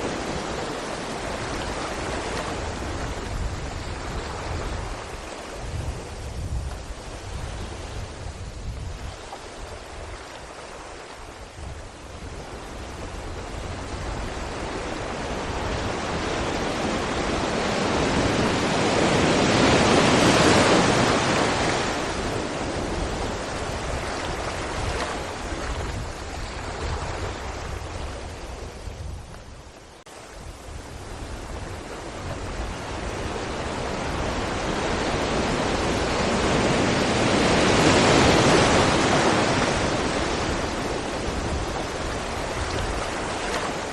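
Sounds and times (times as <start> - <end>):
waves crashing on rocks: 0.0 - 28.9, 30.2 - 43.9.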